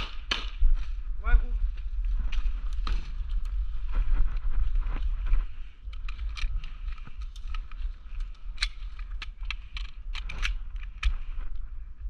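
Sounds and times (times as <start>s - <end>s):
low microphone rumble: 0.0s - 12.0s.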